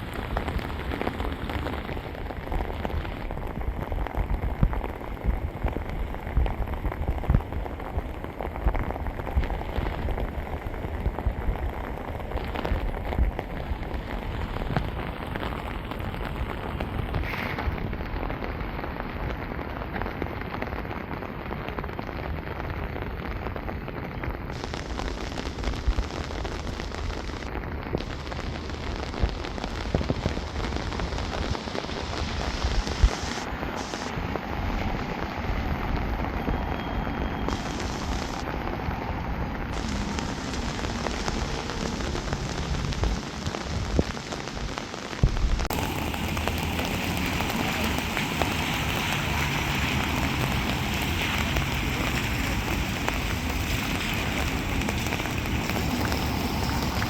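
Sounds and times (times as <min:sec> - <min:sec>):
loud raindrop hits: 0:00.0 - 0:20.4, 0:24.0 - 0:57.0
steady rain: 0:00.0 - 0:57.0.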